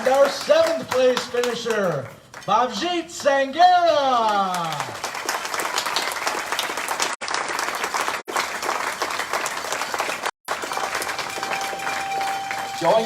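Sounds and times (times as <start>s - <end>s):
audience applauding: 0.0s - 2.1s, 4.3s - 13.0s.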